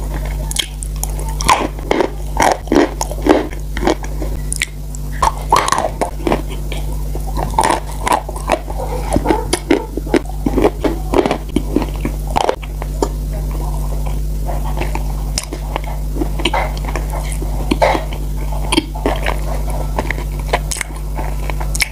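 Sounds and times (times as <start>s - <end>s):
low electrical hum: 0.0s - 21.9s
wet chewing mouth sounds: 0.0s - 21.9s.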